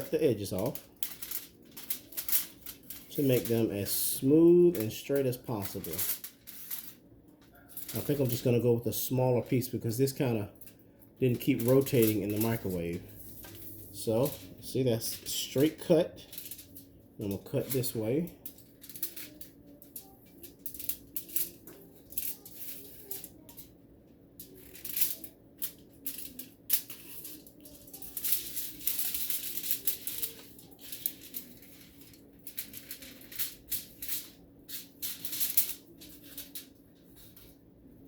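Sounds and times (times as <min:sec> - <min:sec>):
scissors cutting foil: 0:00.0 - 0:03.8, 0:04.4 - 0:07.0, 0:07.6 - 0:08.6, 0:10.0 - 0:14.5, 0:15.2 - 0:23.7, 0:24.4 - 0:37.4
aluminum foil crinkling: 0:00.0 - 0:23.8, 0:24.4 - 0:38.0.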